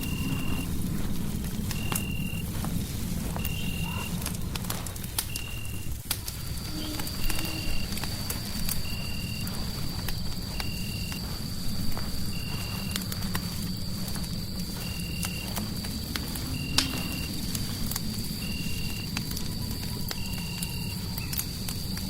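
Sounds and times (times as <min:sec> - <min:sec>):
fireplace crackling: 0:00.0 - 0:22.0
low rumble: 0:00.0 - 0:22.0.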